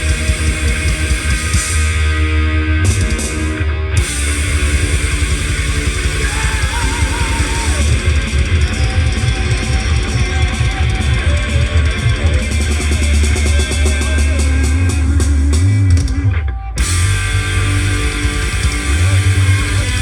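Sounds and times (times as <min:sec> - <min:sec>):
heavy rock music: 0:00.0 - 0:20.0.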